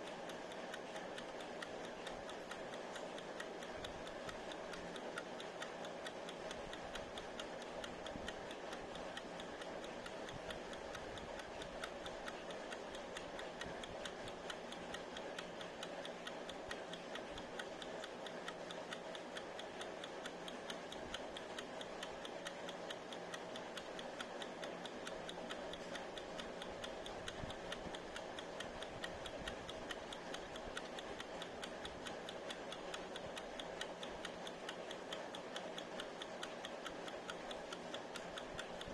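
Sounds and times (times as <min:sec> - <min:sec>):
kitchen timer ticking: 0:00.0 - 0:38.9.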